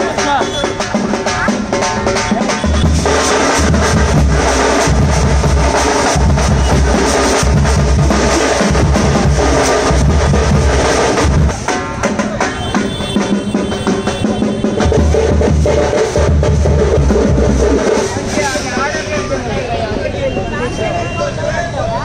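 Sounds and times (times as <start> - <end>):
pulsing bass drum: 0.0 - 19.6
live drum band music: 0.0 - 20.6.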